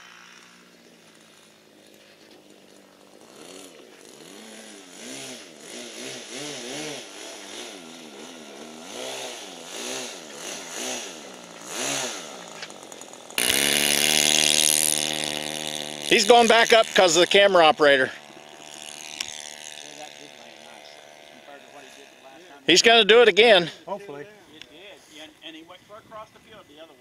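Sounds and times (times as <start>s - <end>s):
model airplane motor whining: 0.0s - 27.0s.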